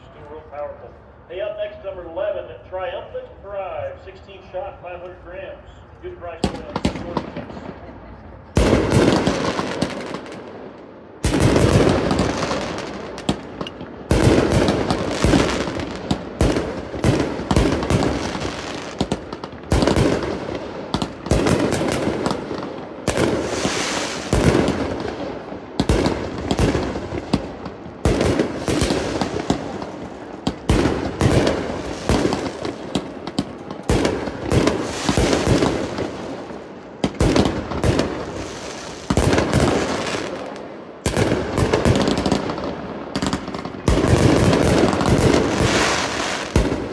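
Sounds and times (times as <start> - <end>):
firework crackling: 6.4 - 46.9.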